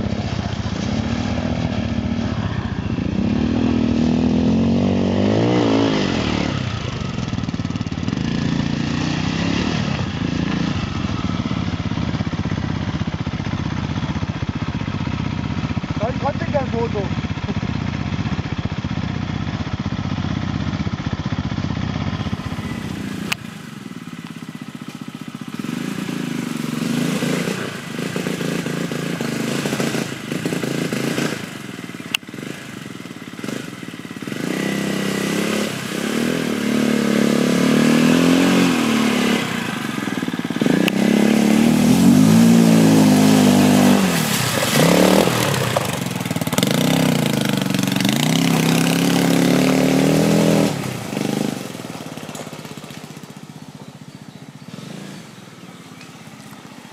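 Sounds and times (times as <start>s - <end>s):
quad bike engine revving: 0.0s - 56.9s.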